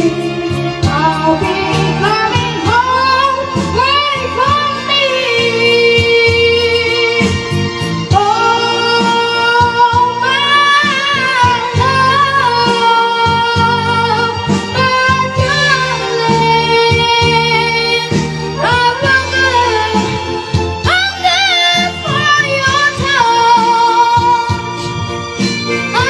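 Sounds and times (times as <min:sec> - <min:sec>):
high singing voice: 0:00.0 - 0:26.0
instrumental accompaniment: 0:00.0 - 0:26.0.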